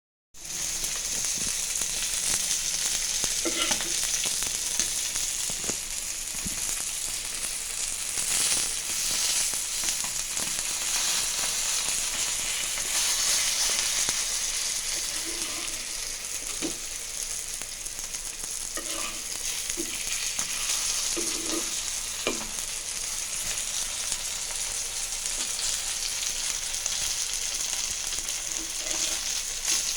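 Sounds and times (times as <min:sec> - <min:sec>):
fish sizzling in hot oil: 0:00.4 - 0:29.9.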